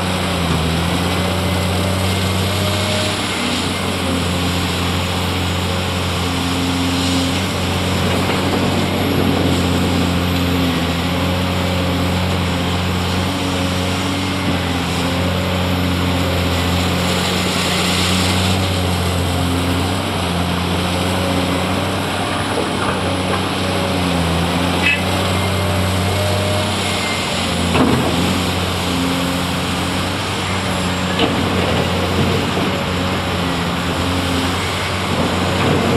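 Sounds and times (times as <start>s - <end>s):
excavator diesel engine under load: 0.0s - 35.9s.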